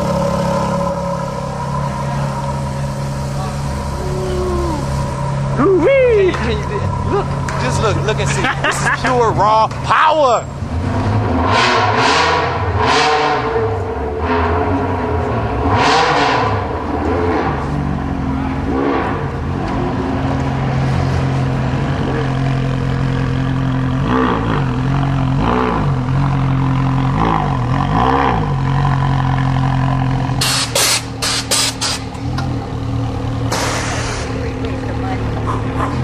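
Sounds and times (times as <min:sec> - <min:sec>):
car engine idling: 0:00.0 - 0:11.4, 0:16.6 - 0:36.0.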